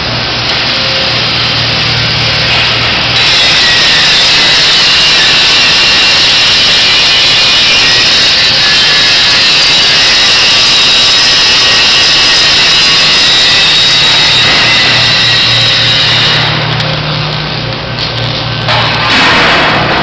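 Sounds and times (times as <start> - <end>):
angle grinder grinding metal: 0.5 - 17.4.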